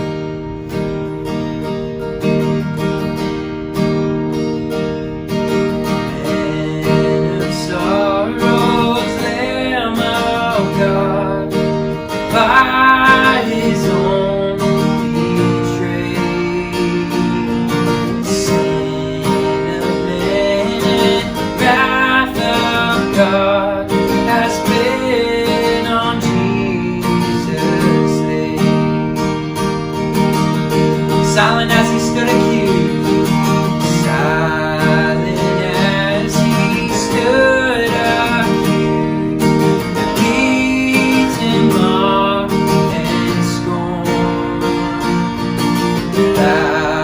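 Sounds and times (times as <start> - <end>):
strummed acoustic guitar: 0.0 - 47.0.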